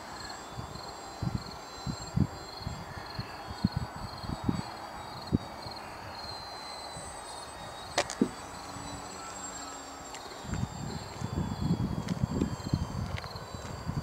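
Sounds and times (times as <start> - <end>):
insects chirping: 0.0 - 14.0
wind buffeting microphone: 0.4 - 9.3, 10.0 - 14.0.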